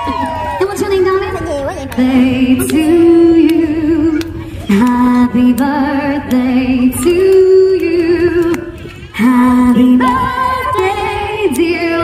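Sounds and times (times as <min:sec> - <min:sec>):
woman singing with vibrato: 0:02.0 - 0:12.0.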